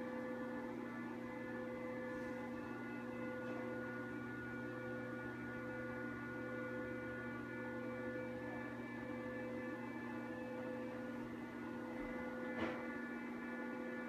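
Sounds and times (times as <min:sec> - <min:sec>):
aquarium equipment hum: 0:00.0 - 0:14.0.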